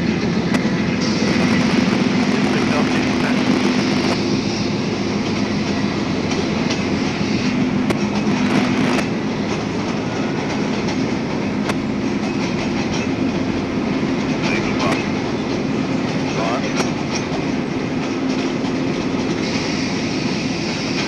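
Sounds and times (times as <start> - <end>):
locomotive engine drone: 0.0 - 21.0
wheels clattering on rails: 0.0 - 21.0.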